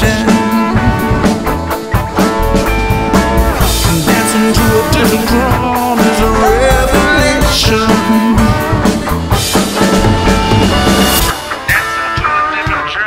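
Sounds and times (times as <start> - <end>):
drum kit steady beat: 0.0 - 12.8
electric guitar: 0.0 - 13.0.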